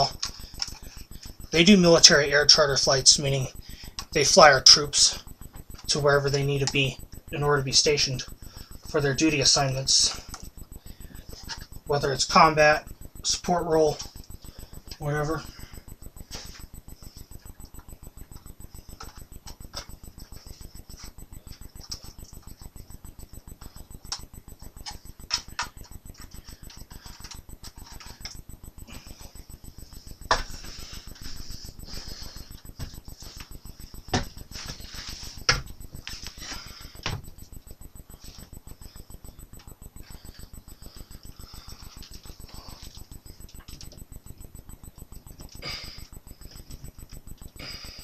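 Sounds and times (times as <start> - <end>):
fast pulsing noise: 0.0 - 48.0.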